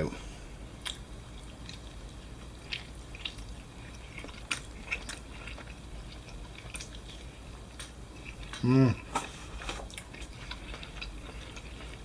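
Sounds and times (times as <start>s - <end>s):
person chewing: 0.7s - 12.0s.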